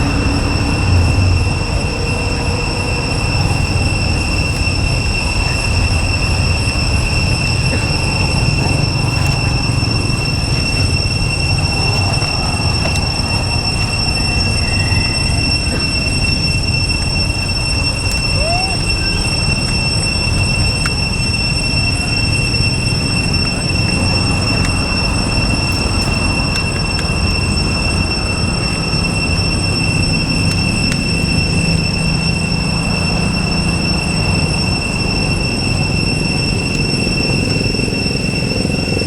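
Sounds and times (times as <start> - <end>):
cicadas droning: 0.0 - 39.0
constant low rumble: 0.0 - 39.0
faint rising squeak: 0.0 - 39.0.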